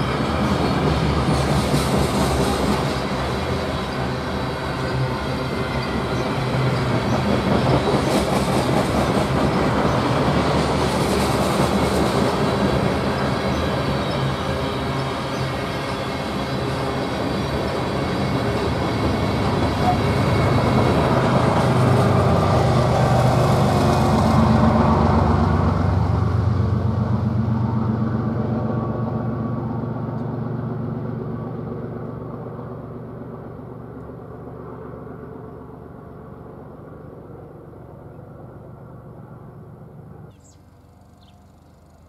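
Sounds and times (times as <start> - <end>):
freight train wheels on rails: 0.0 - 42.0.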